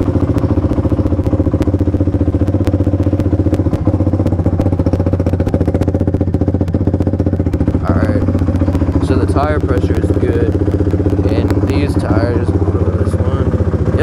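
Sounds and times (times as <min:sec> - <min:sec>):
quad engine idling: 0:00.0 - 0:14.0.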